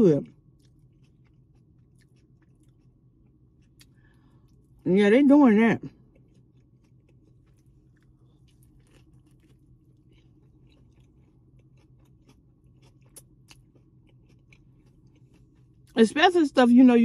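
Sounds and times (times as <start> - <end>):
steady low hum: 0.0 - 17.0
person chewing food: 0.2 - 4.8, 5.9 - 16.0.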